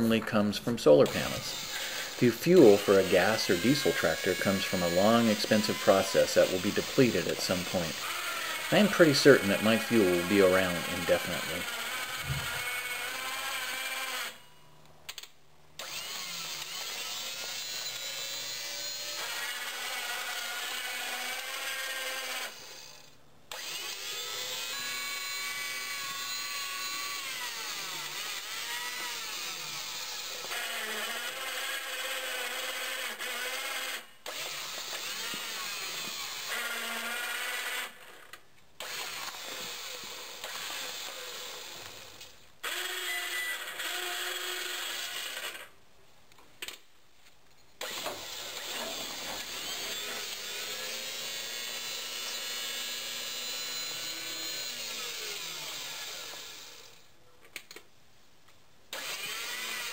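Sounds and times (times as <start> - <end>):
electric motors whining: 1.0 - 14.5, 15.8 - 45.7, 47.8 - 57.1, 58.9 - 59.9.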